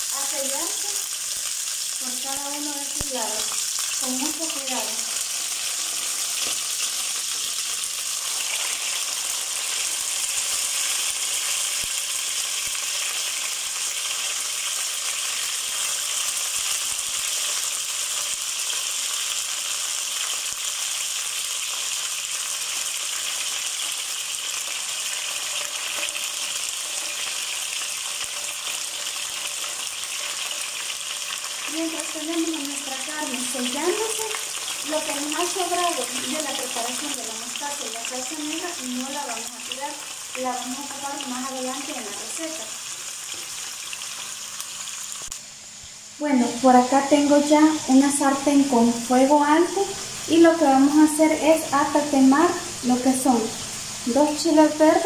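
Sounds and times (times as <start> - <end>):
meat sizzling in hot oil: 0.0 - 55.0.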